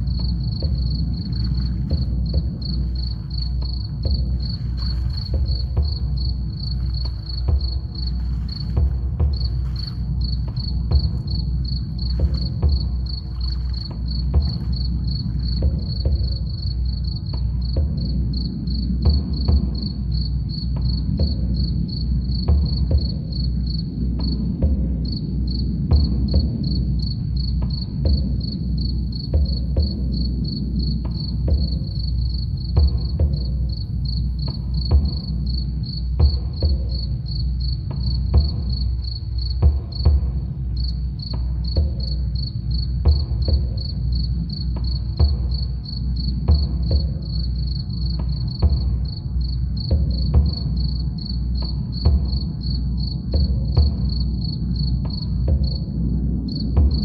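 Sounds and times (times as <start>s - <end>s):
crickets chirping: 0.0s - 57.0s
low drum hits: 0.0s - 57.0s.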